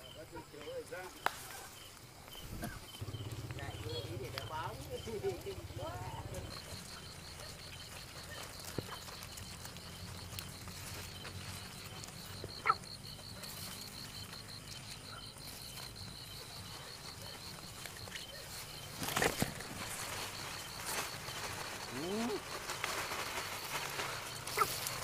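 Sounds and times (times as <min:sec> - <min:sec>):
insect trilling: 0:00.1 - 0:25.0
leaves rustling: 0:00.6 - 0:25.0.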